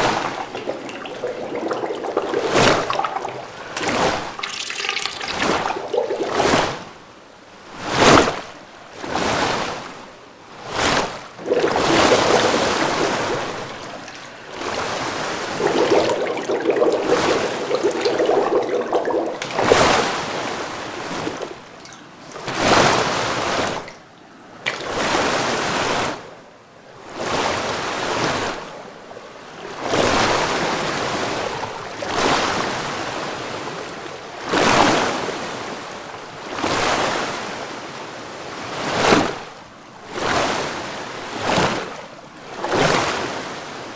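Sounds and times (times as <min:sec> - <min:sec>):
water sloshing and surging: 0:00.0 - 0:43.9.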